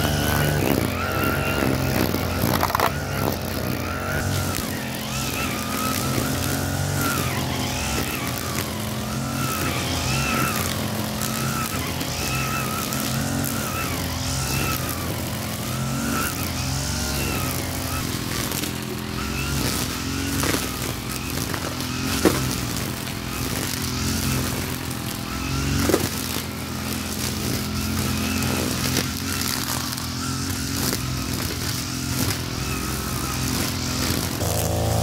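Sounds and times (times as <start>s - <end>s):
brush cutter engine trimming grass: 0.0s - 35.0s.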